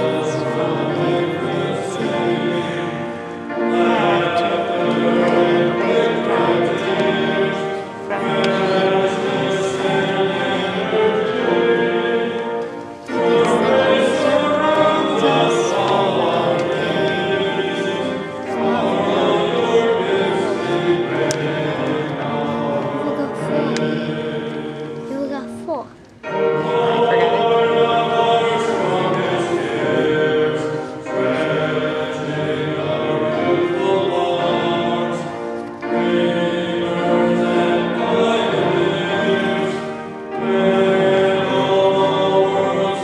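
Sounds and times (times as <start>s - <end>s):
classical singing with accompaniment: 0.0s - 43.0s.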